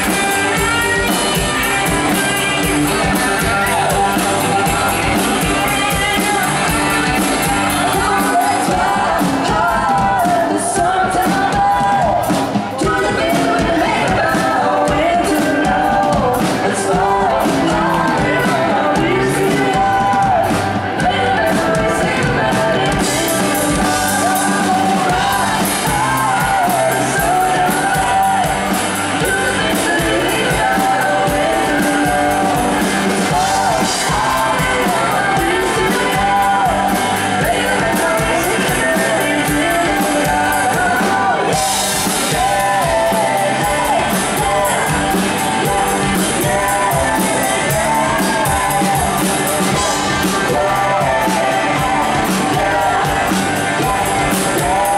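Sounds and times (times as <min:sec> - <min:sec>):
country rock band playing: 0:00.0 - 0:54.9
person singing: 0:00.0 - 0:54.9.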